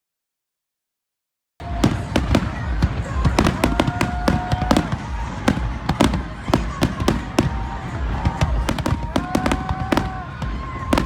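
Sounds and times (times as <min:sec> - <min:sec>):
fireworks banging and crackling: 0:01.6 - 0:11.0.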